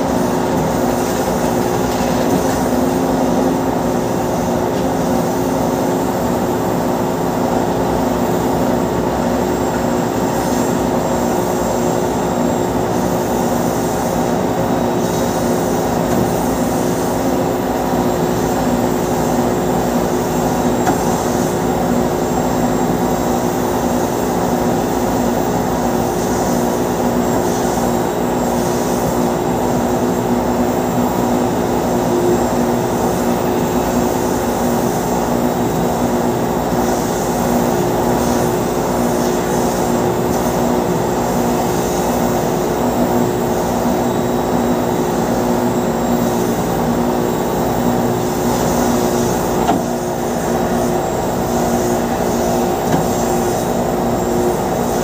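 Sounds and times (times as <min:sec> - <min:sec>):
loud machinery drone: 0:00.0 - 0:55.0.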